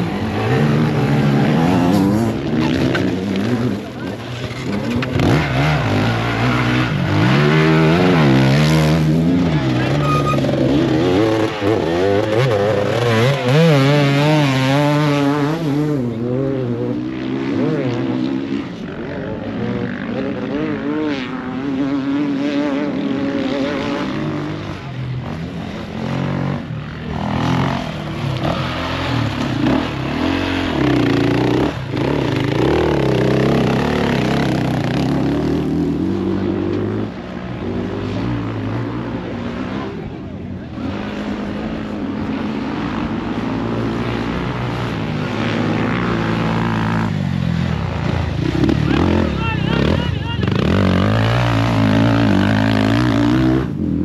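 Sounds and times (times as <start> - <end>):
dirt bike engine revving: 0.0 - 40.1, 40.7 - 54.0.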